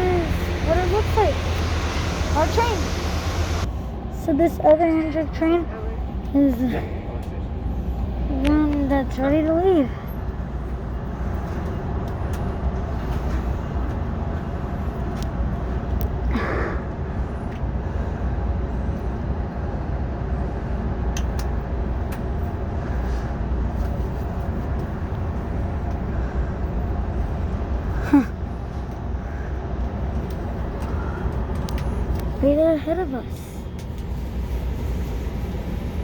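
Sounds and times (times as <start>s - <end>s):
diesel locomotive idling: 0.0s - 36.0s.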